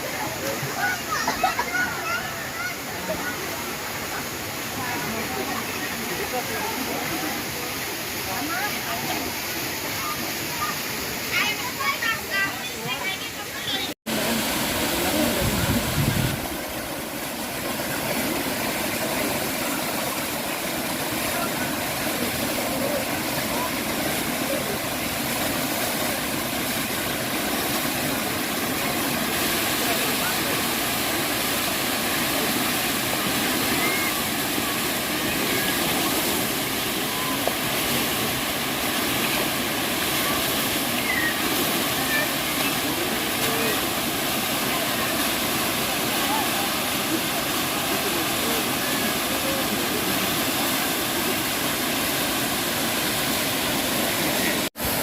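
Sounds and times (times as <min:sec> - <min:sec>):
falling water rushing: 0:00.0 - 0:55.0.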